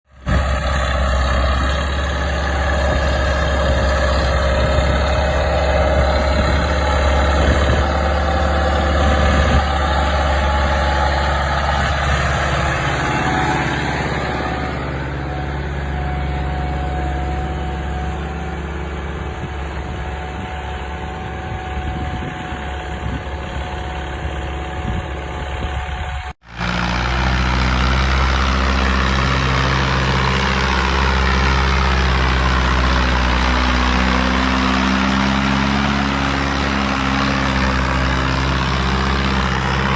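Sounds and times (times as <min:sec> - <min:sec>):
diesel tractor engines running: 0:00.1 - 0:39.9.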